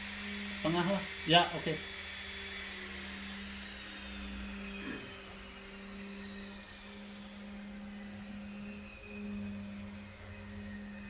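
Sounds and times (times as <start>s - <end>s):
faint high whining tones: 0.0s - 11.0s
low motor hum: 0.0s - 11.0s.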